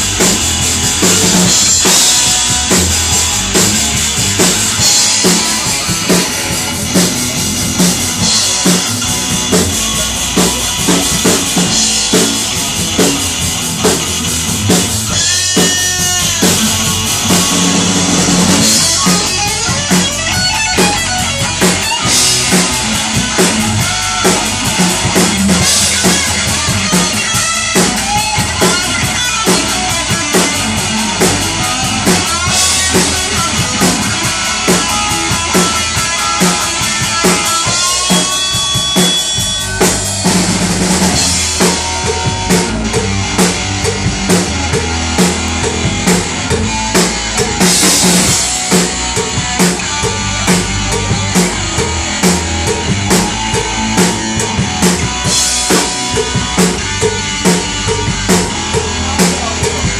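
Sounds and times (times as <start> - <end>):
distorted electric guitars: 0.0 - 59.9
drum kit steady beat: 0.0 - 59.9.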